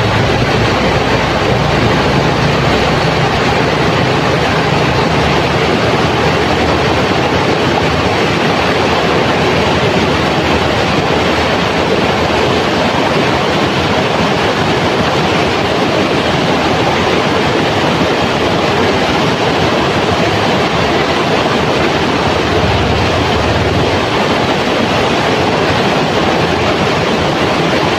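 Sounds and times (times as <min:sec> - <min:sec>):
water rushing over rocks: 0:00.0 - 0:27.9.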